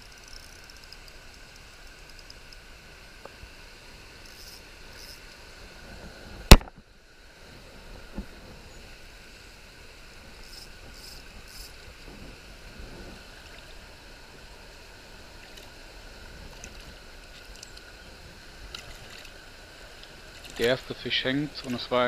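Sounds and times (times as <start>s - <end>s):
river water rushing over riffle: 2.6s - 22.0s.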